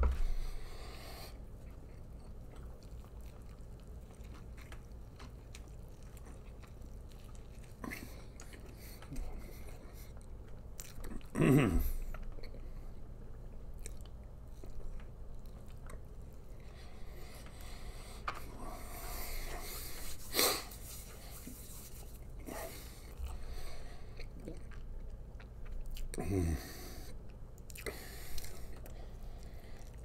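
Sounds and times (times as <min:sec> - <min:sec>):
man chewing and biting: 0:01.4 - 0:12.6, 0:13.2 - 0:26.3, 0:27.3 - 0:30.0.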